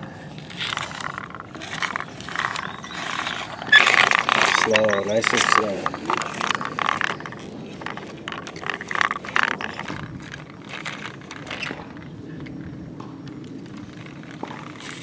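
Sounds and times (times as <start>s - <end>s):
toy truck scraping over dirt: 0.0s - 12.7s, 13.3s - 15.0s.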